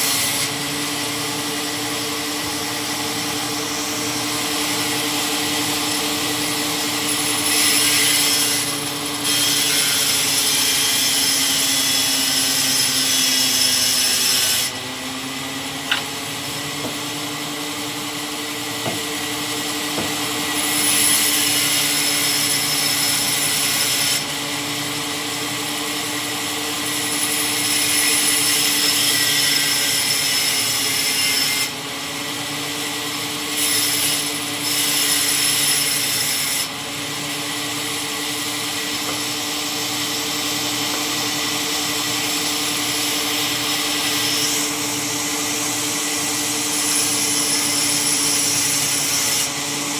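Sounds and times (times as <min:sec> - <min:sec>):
power saw cutting wood: 0:00.0 - 0:49.9
saw motor humming: 0:00.0 - 0:49.9.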